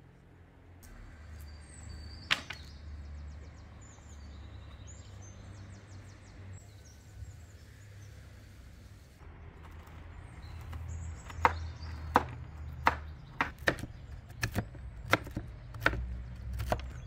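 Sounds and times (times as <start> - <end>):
small birds chirping: 0.8 - 17.0.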